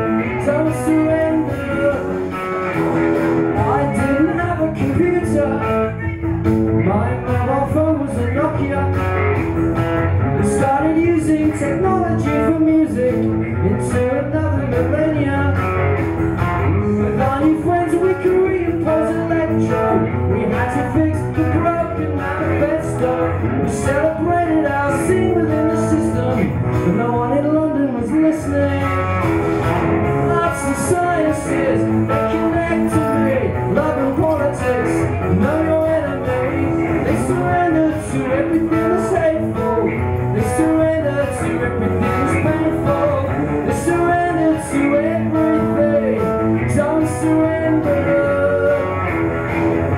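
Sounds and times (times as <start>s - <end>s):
man singing into microphone: 0.0s - 2.4s, 3.4s - 9.4s, 10.2s - 29.3s, 30.1s - 49.5s
electric guitar: 0.0s - 49.9s.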